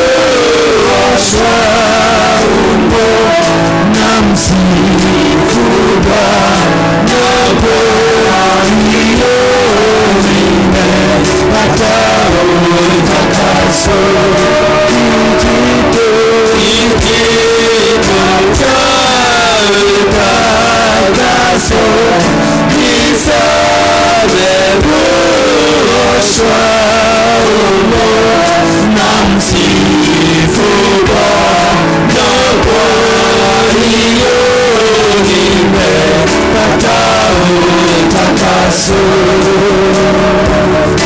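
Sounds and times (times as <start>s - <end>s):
band accompaniment: 0.0s - 41.0s
congregation singing gospel song: 0.0s - 41.0s.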